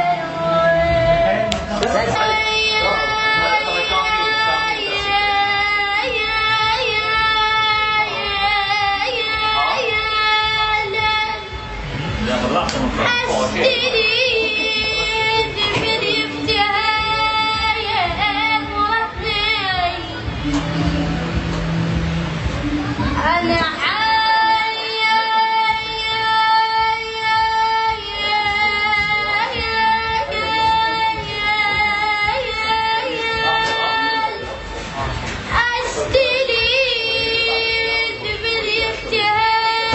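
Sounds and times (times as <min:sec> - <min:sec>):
high voice singing: 0:00.0 - 0:39.9.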